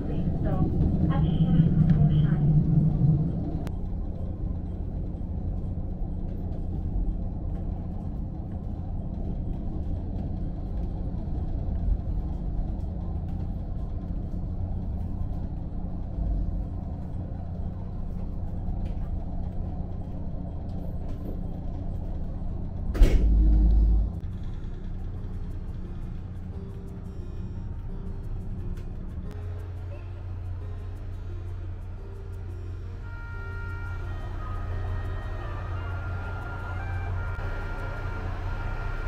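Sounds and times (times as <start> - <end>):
diesel railcar rumble: 0.0 - 39.0.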